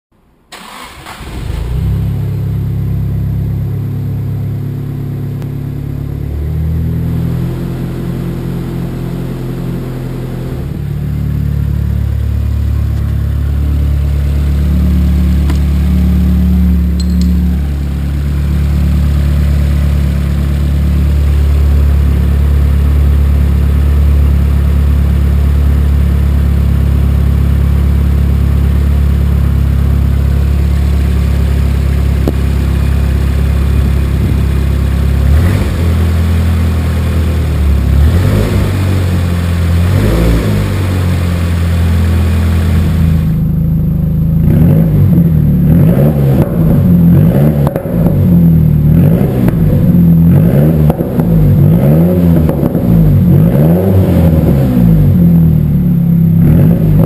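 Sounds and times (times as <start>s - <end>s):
car engine starting and idling: 0.2s - 57.0s.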